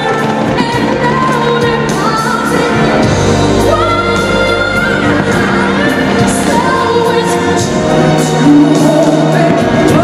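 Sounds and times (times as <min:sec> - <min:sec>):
song over stadium sound system: 0:00.0 - 0:10.0.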